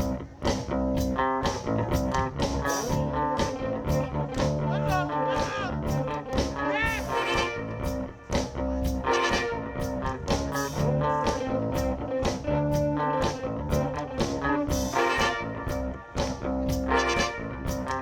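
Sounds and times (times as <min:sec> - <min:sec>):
electric guitar lead: 0:00.0 - 0:18.0
funk band playing: 0:00.0 - 0:18.0.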